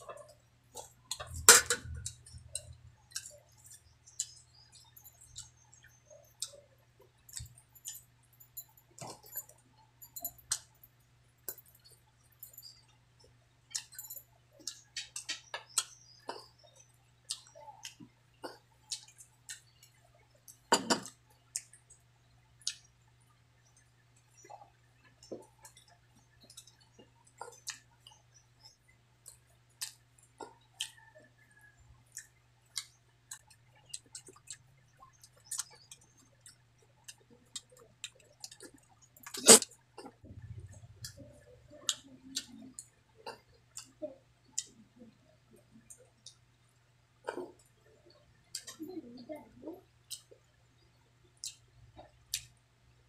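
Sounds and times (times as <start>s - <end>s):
wet chewing and lip-smacking: 0.1s - 8.0s, 14.6s - 46.4s, 47.2s - 52.7s.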